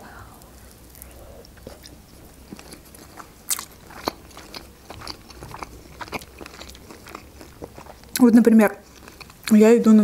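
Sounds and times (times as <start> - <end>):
close chewing and mouth smacks: 0.9 - 9.6.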